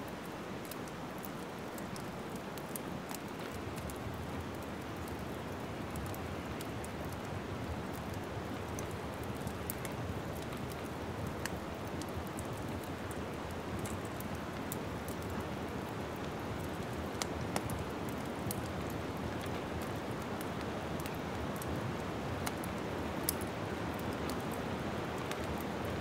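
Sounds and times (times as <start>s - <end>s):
fire crackling: 0.1s - 26.0s.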